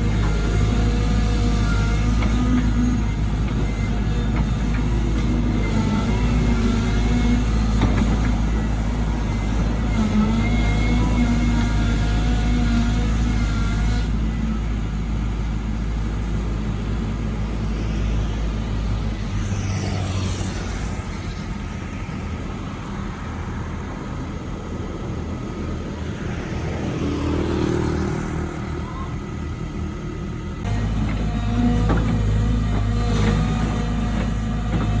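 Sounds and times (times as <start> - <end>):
excavator diesel engine running: 0.0 - 35.0
lighter noisier engine sound: 0.0 - 35.0.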